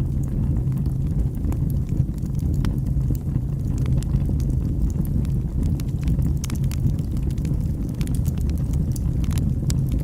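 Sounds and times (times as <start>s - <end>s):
fire crackling and popping: 0.0s - 10.0s.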